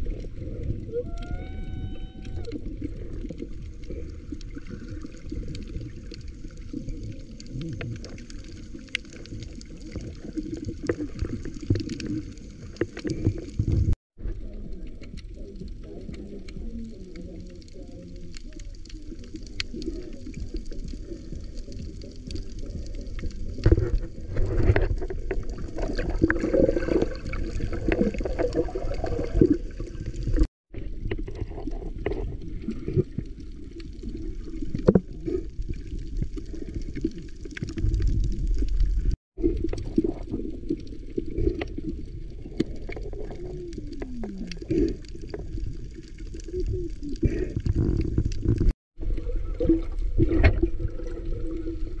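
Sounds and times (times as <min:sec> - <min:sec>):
bubbling: 0:00.0 - 0:52.0
underwater rush and slosh: 0:00.0 - 0:52.0
small underwater clicks: 0:00.1 - 0:48.7.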